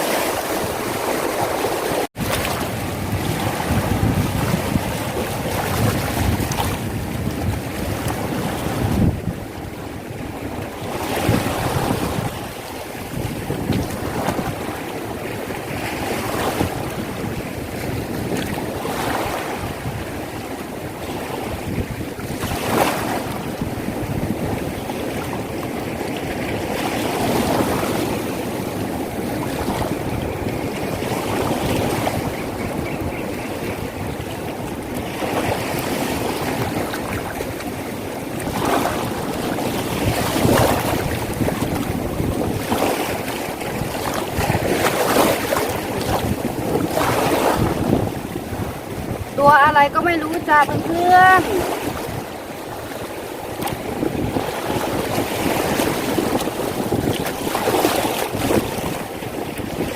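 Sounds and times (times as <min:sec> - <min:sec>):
small waves washing onto beach: 0:00.0 - 0:59.9
wind buffeting microphone: 0:00.0 - 0:59.9.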